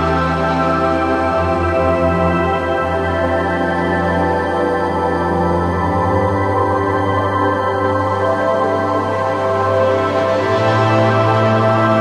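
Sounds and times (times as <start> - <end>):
ambient music with held tones: 0.0 - 12.0.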